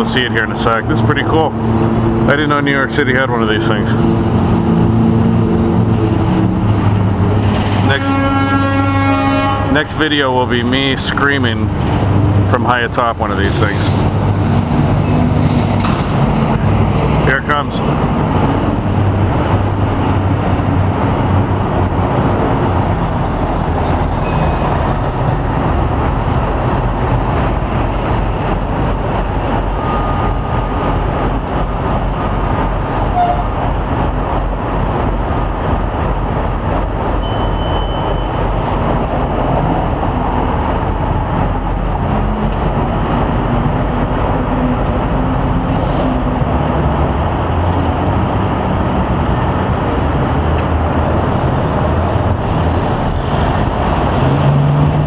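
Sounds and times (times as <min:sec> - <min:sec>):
aerial tramway rumble: 0:00.0 - 0:55.0
city traffic: 0:00.0 - 0:55.0.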